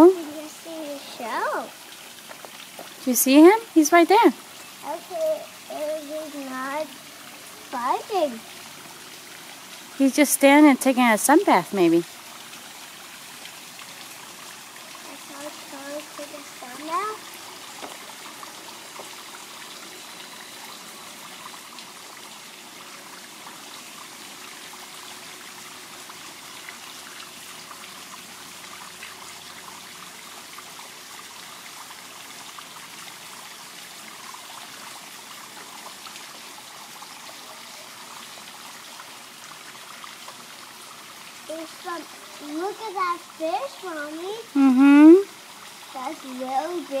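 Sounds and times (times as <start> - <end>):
water trickling into pond: 0.0 - 47.0.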